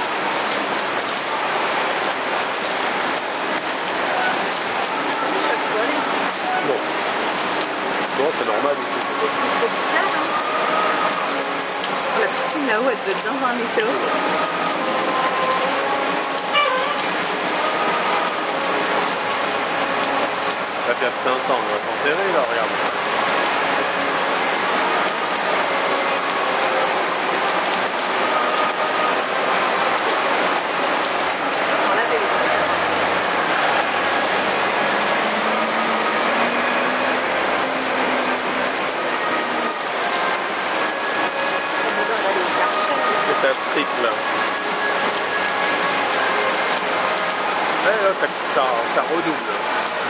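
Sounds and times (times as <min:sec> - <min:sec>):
heavy rain on water and pavement: 0:00.0 - 0:50.0.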